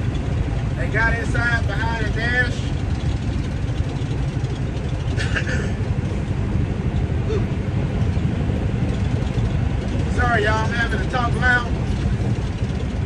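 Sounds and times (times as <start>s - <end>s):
road noise: 0.0s - 13.0s
truck diesel engine rumble: 0.0s - 13.0s.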